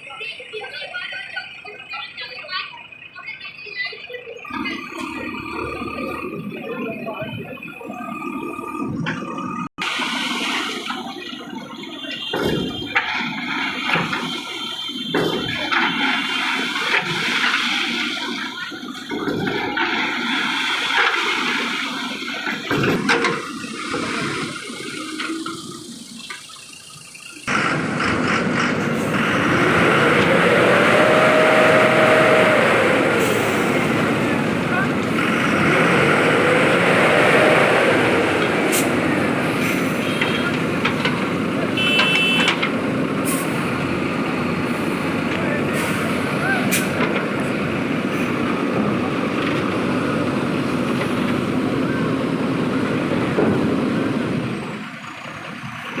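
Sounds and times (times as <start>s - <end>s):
heavy vehicle engine running hard: 0.0s - 56.0s.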